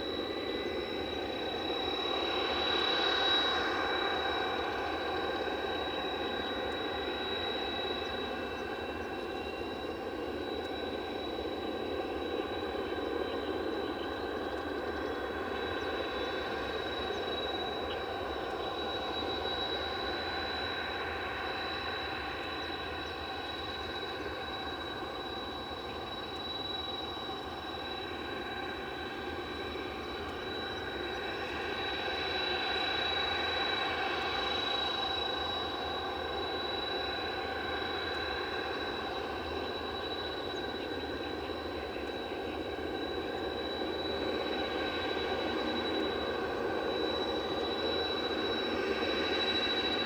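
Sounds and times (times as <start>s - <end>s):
jet engine high-pitched whine: 0.0s - 50.0s.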